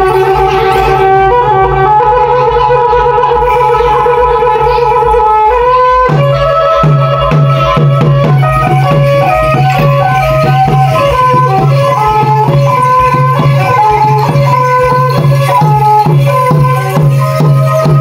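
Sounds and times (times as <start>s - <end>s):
pulsing low drum beat: 0.0s - 18.0s
reedy wind instrument melody: 0.0s - 18.0s.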